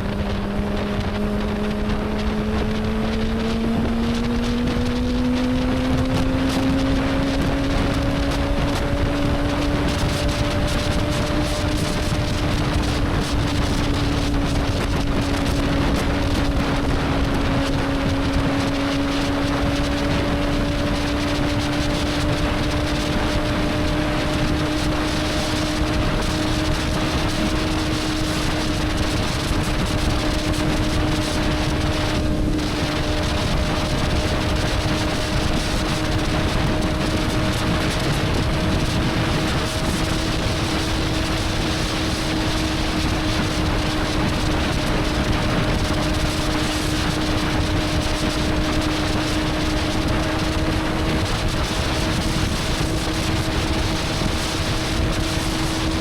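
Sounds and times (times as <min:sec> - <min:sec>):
motorcycle engine cruising: 0:00.0 - 0:56.0
wind rush on microphone: 0:00.0 - 0:56.0.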